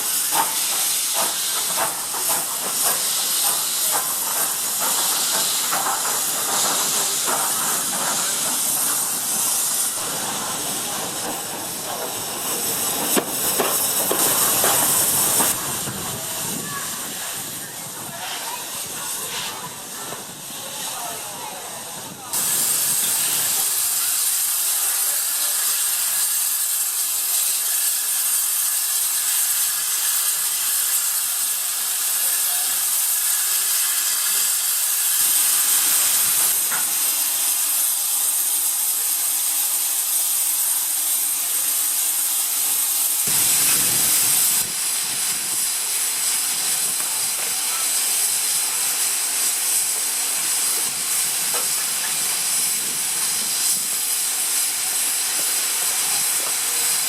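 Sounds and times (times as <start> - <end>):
blast of steam: 0.0 - 57.0
steam locomotive hissing: 0.0 - 57.0.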